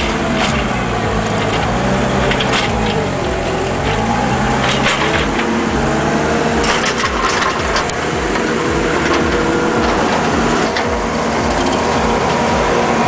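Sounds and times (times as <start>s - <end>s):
heavy machinery engine running: 0.0s - 13.0s.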